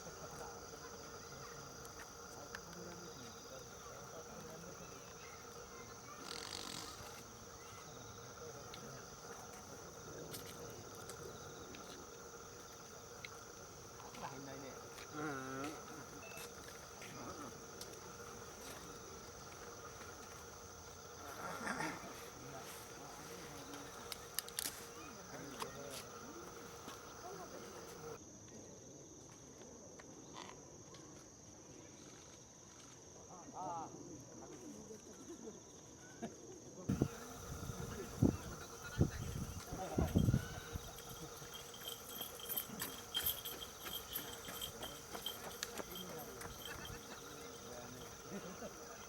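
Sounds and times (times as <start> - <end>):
crickets trilling: 0.0 - 29.3, 29.9 - 49.0
insects chirring: 0.0 - 29.3, 29.9 - 49.0.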